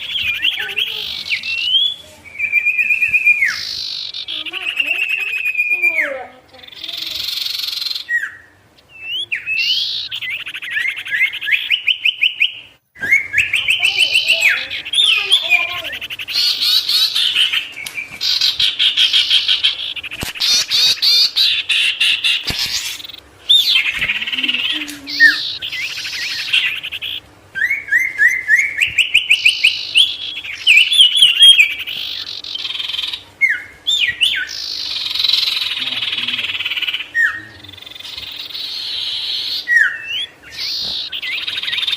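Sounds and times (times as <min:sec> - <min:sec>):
songbird singing fast trills: 0:00.0 - 0:41.9.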